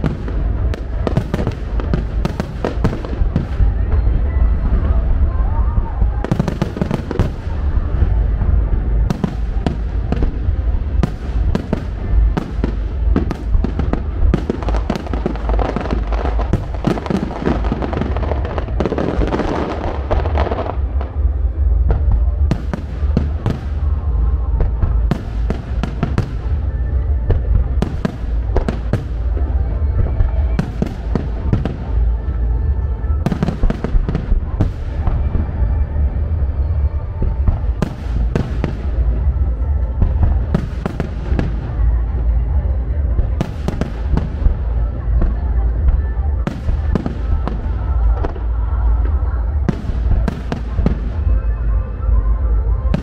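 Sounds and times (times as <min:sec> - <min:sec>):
continuous low rumble: 0:00.0 - 0:53.0
fireworks bursting: 0:00.0 - 0:53.0
music: 0:00.0 - 0:53.0.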